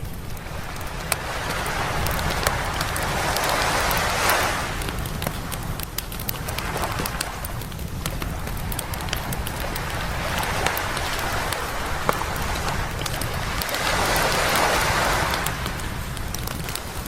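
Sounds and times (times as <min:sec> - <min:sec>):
campfire crackling and popping: 0:00.0 - 0:17.0
sea waves breaking on beach: 0:00.0 - 0:17.0.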